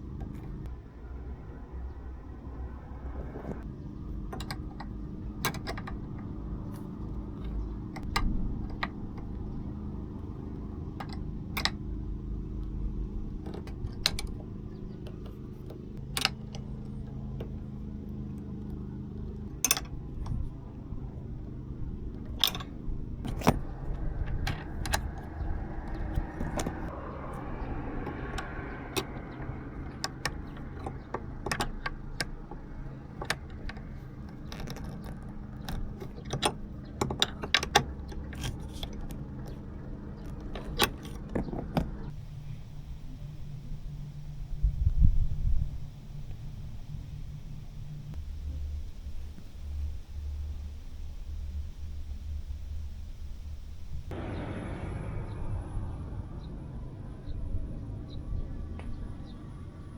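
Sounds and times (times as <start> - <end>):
low vehicle cabin drone: 0.0 - 59.9
sharp clicks and rattles: 3.2 - 54.5.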